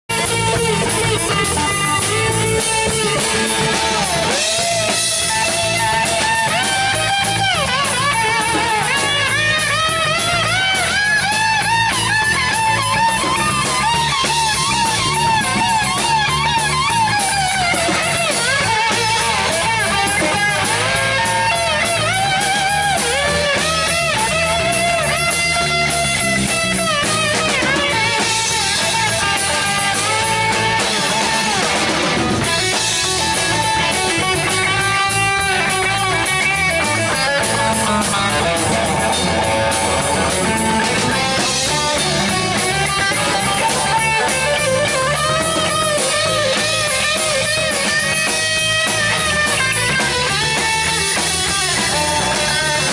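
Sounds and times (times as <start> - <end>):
electric guitar lead lines: 0.0 - 52.9
live rock band playing: 0.0 - 52.9.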